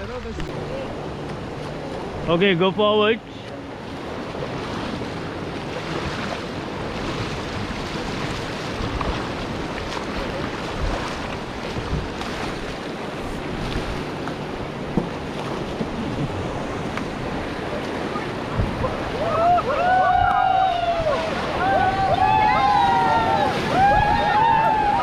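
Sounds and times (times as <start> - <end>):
river water rushing and splashing: 0.0 - 25.0
paddle splashes: 3.3 - 25.0
wind buffeting microphone: 3.8 - 25.0.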